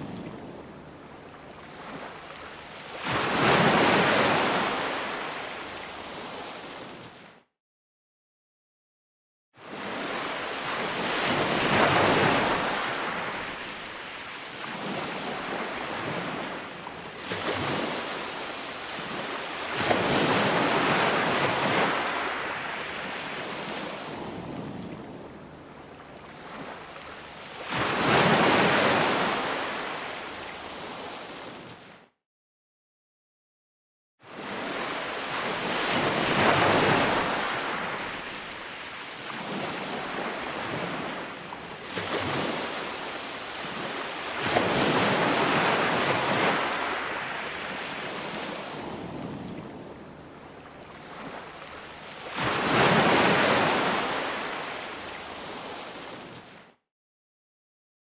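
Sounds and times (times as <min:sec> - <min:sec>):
ocean waves breaking: 0:00.0 - 0:07.3, 0:09.6 - 0:32.0, 0:34.3 - 0:56.6.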